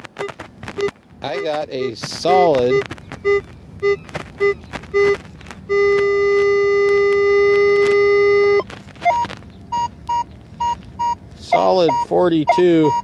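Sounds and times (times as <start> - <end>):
metal detector beeps and tones: 0.2 - 13.0.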